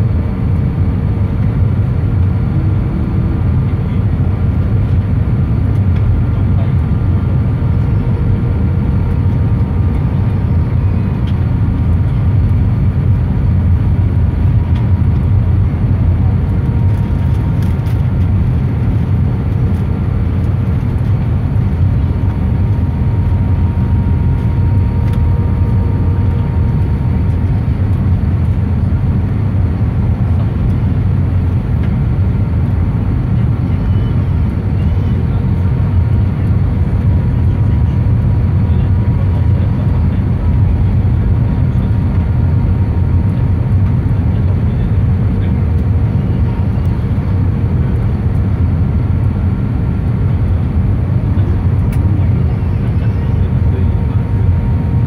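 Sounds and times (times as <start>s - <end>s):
faint steady whine: 0.0s - 55.0s
low rumble of engines and airflow: 0.0s - 55.0s.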